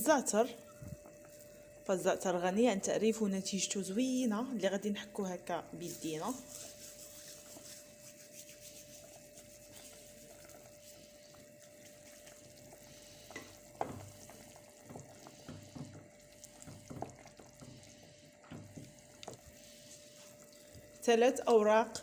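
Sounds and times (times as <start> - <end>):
cooking pot sizzling hiss: 0.0 - 22.0.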